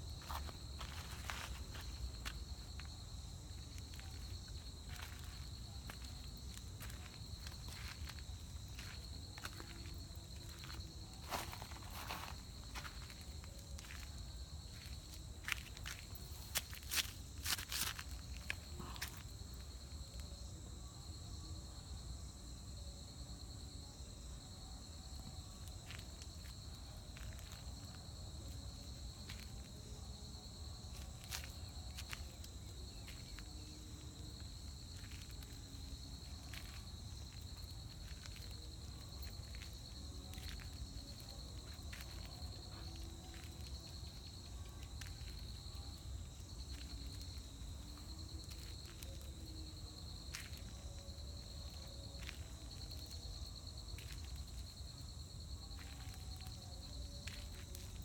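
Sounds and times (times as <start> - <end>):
insects trilling: 0.0 - 22.1, 22.8 - 58.0.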